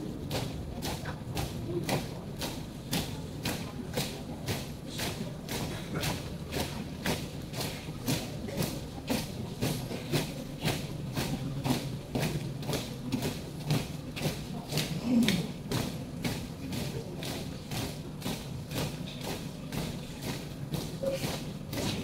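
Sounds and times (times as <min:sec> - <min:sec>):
marching footsteps on pavement: 0:00.0 - 0:22.0.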